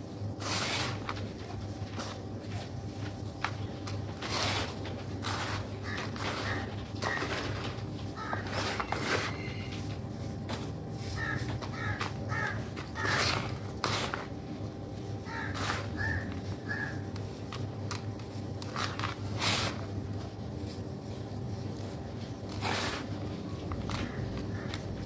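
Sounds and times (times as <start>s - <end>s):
sand sifting through fingers: 0.0s - 3.3s, 3.9s - 14.4s, 18.2s - 25.0s.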